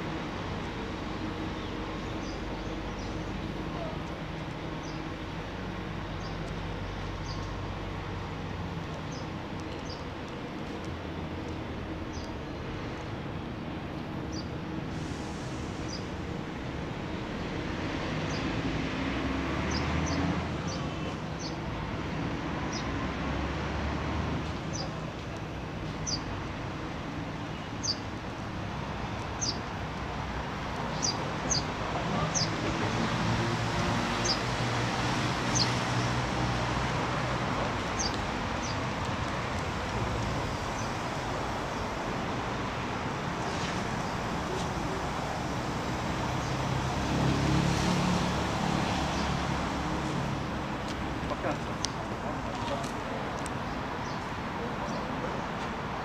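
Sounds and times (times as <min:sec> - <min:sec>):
city traffic hum: 0:00.0 - 0:56.0.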